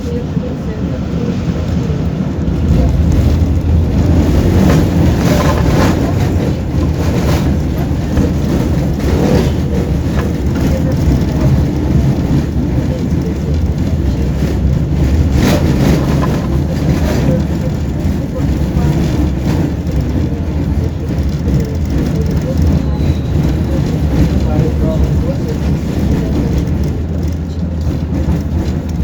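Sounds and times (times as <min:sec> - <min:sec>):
tram wheels rumbling: 0:00.0 - 0:29.0
knocks and rattles: 0:02.4 - 0:29.0.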